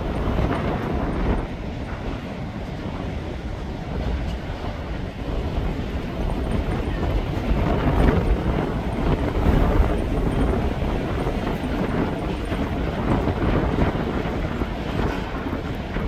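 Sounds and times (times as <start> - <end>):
train rumbling by: 0.0 - 16.0
wind buffeting microphone: 0.0 - 16.0.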